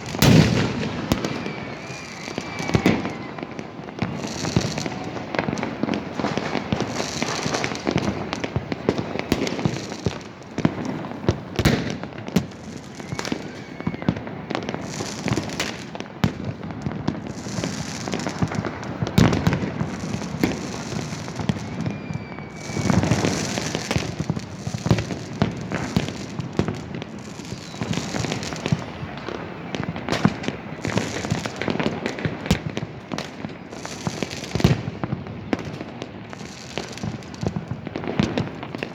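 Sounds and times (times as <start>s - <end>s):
firework whistles: 0.0s - 38.9s
fireworks banging and crackling: 0.0s - 38.9s.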